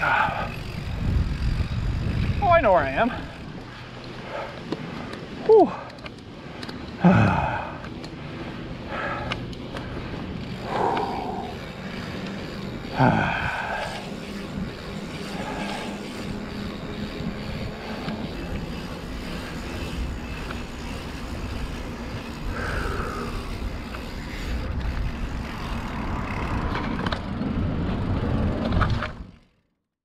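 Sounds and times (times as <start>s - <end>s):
wind rumbling on microphone: 0.0s - 5.5s, 9.6s - 29.4s
bike tyre noise on pavement: 0.0s - 29.8s.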